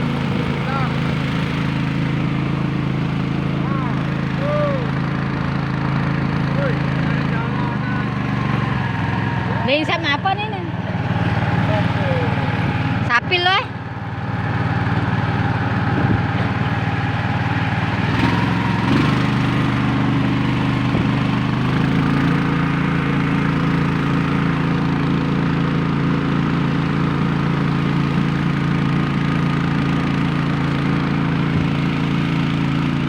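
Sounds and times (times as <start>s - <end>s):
small boat engine running: 0.0s - 33.0s.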